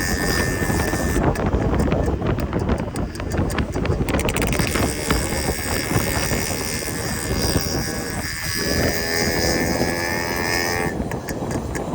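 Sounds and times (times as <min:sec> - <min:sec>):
two-stroke engine running: 0:00.0 - 0:11.9.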